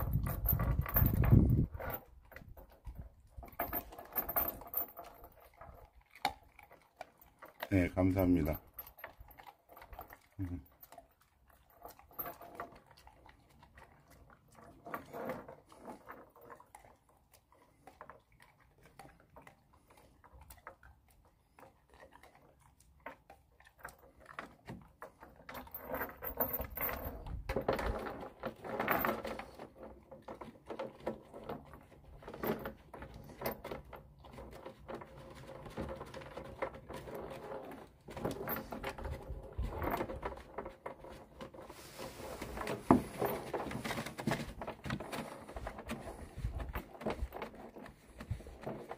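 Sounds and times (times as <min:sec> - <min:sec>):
chain clinking on wooden deck: 0:00.0 - 0:48.9
dog eating from plastic bowl: 0:00.0 - 0:48.9.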